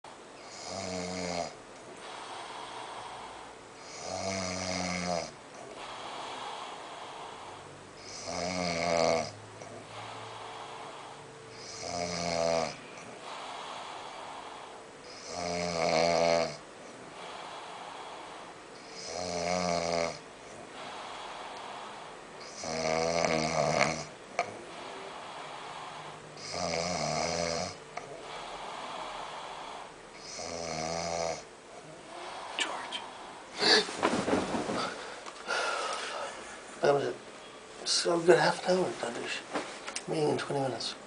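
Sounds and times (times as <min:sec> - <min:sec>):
quiet breathing: 0:00.1 - 0:41.0
person snoring: 0:00.4 - 0:33.9.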